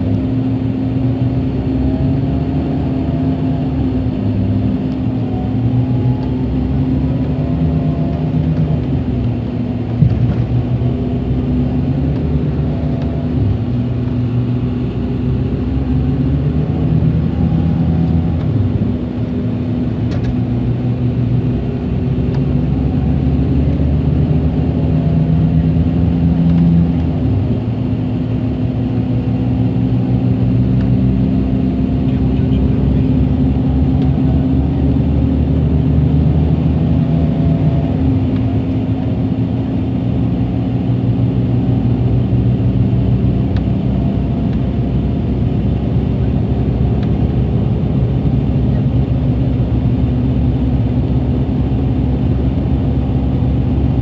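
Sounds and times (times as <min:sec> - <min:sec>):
diesel engine drone inside coach: 0:00.0 - 0:54.0.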